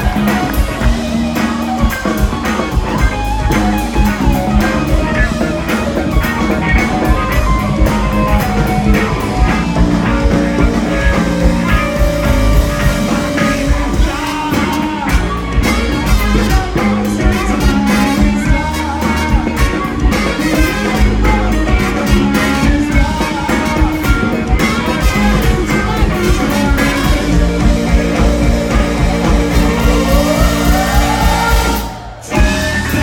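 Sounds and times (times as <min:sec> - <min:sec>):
live rock band playing: 0:00.0 - 0:33.0
person singing: 0:00.0 - 0:33.0.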